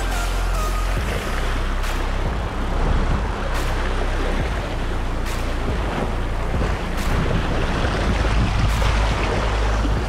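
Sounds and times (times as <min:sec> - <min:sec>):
water washing against rocks: 0:01.0 - 0:10.0
wind rumbling on microphone: 0:01.0 - 0:10.0.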